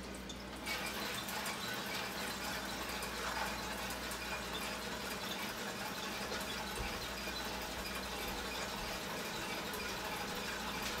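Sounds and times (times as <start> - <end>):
water spraying inside toy dishwasher: 0.0 - 11.0.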